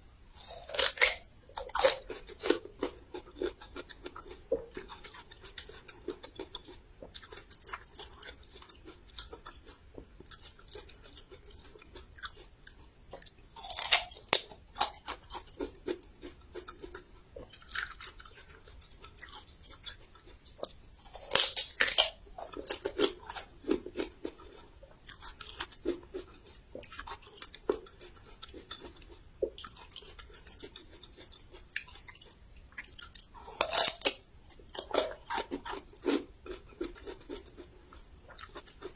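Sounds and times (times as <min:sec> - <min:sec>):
chewing crisp ginger crunches: 0:00.3 - 0:38.9.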